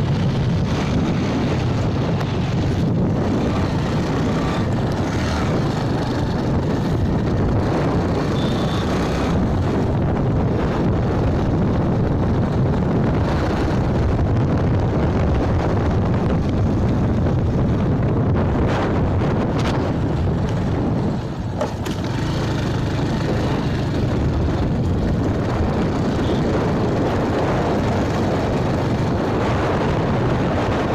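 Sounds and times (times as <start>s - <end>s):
motorbike wind and road noise: 0.0s - 30.9s
wind buffeting microphone: 0.0s - 30.9s.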